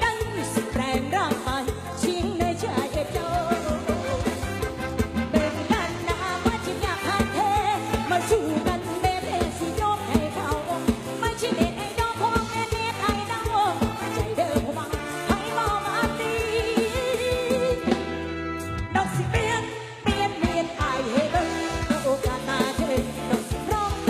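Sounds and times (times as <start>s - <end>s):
driving drum beat: 0.0s - 24.0s.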